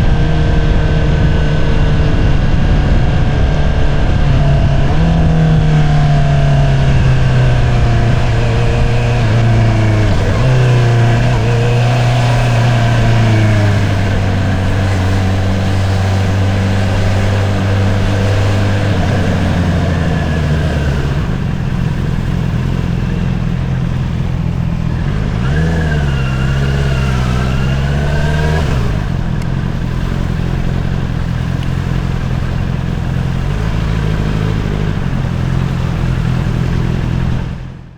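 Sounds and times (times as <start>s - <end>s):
motorcycle engine: 0.0s - 37.9s.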